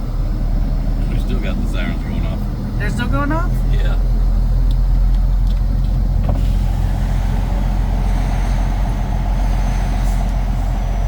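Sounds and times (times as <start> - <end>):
faint steady whine: 0.0 - 11.0
truck diesel engine running: 0.0 - 11.0.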